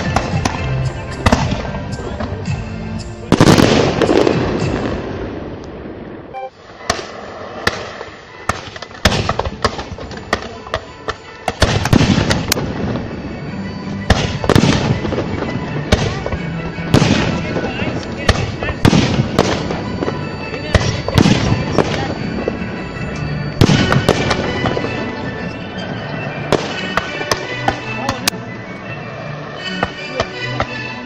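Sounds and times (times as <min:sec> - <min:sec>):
sharp firework bangs and cracks: 0:00.0 - 0:02.5, 0:03.3 - 0:28.3
music playing: 0:00.0 - 0:06.6, 0:08.2 - 0:31.0
fireworks exploding: 0:00.0 - 0:28.4.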